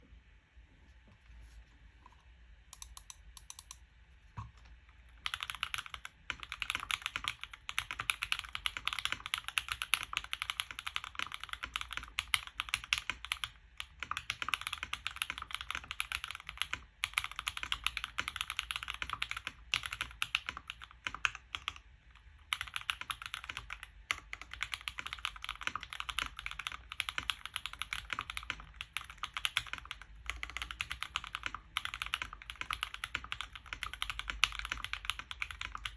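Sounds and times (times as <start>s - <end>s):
fast typing on mechanical keyboard: 5.2s - 35.9s.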